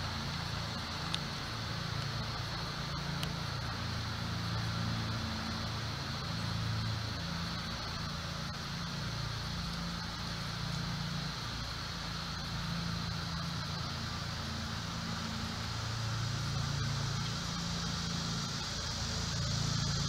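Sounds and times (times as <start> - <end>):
faint high buzz: 0.0 - 20.0
low mechanical hum: 0.0 - 20.0.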